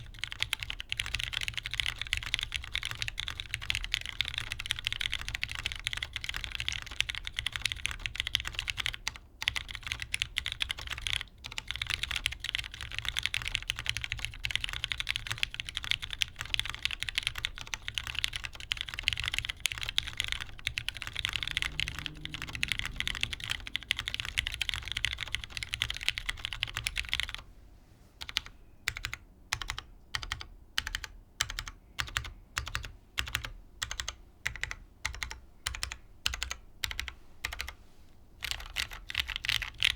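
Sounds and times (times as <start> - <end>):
mechanical keyboard typing: 0.0 - 27.4, 28.2 - 37.8, 38.4 - 39.9.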